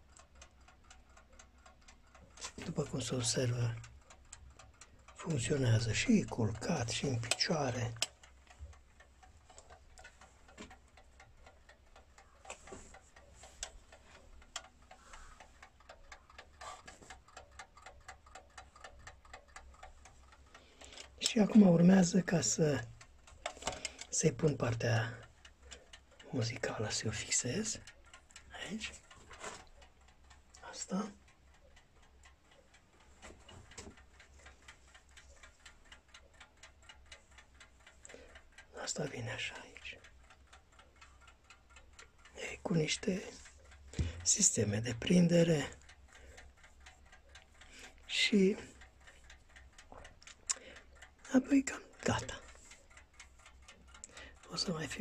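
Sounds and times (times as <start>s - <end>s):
clock ticking quickly: 0.0s - 55.0s.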